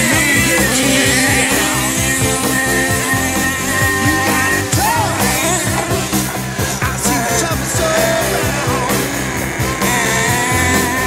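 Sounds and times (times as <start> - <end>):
rock music with fast drum beat: 0.0 - 11.0.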